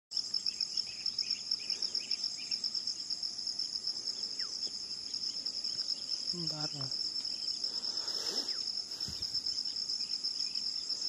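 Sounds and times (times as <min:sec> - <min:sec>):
insect trill: 0:00.1 - 0:11.0
short insect chirps: 0:00.1 - 0:11.0.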